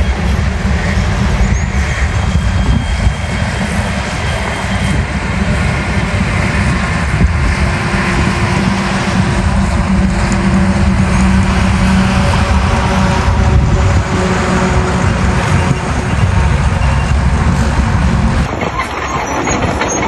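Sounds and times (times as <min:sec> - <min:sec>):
heavy diesel machinery rumbling: 0:00.0 - 0:20.0.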